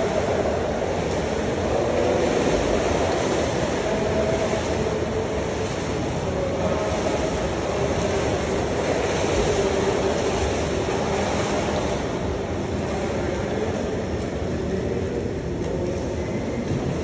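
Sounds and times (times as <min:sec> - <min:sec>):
swimmer splashing strokes: 0:00.0 - 0:14.8
pool hall ventilation: 0:00.0 - 0:17.0
water noise: 0:00.0 - 0:17.0.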